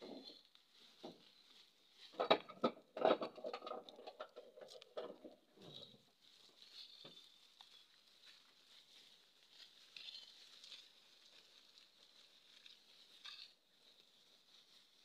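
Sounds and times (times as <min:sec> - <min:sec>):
soft crackles: 0:00.0 - 0:02.3, 0:03.2 - 0:15.0
plants rustling: 0:00.0 - 0:15.0.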